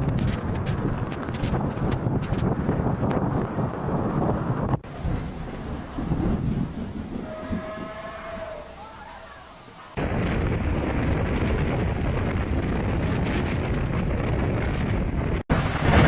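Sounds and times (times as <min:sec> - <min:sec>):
strong wind buffeting microphone: 0:00.0 - 0:08.8, 0:09.6 - 0:16.0.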